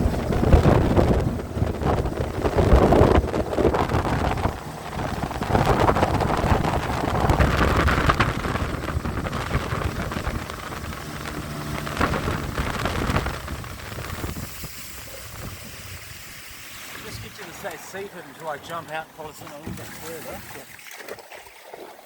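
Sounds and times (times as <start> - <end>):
wind buffeting microphone: 0.0 - 20.6
boat rushing on water: 0.0 - 22.0.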